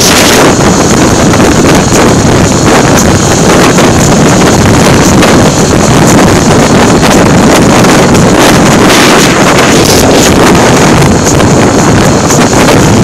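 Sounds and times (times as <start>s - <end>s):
vehicle noise: 0.0s - 13.0s
wind buffeting microphone: 0.0s - 13.0s.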